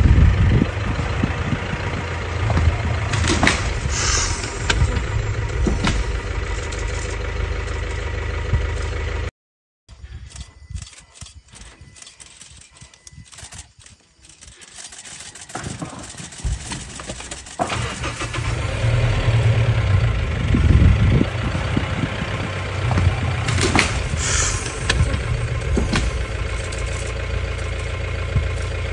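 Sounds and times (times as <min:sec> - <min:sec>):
vehicle engine starting and idling: 0:00.0 - 0:09.3, 0:14.8 - 0:28.9.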